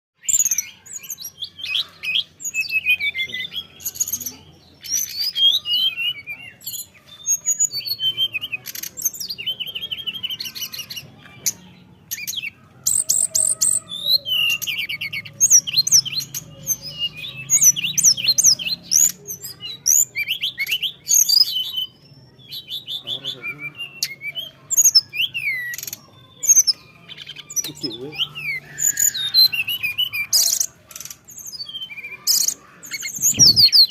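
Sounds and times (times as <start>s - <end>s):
songbird singing trills and whistles: 0.2s - 33.9s.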